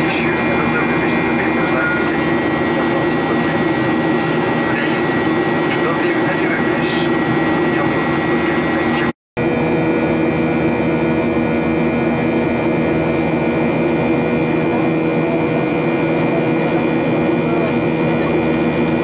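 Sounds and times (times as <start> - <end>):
airliner cabin engine rumble: 0.0 - 19.0
steady high whine: 0.0 - 19.0.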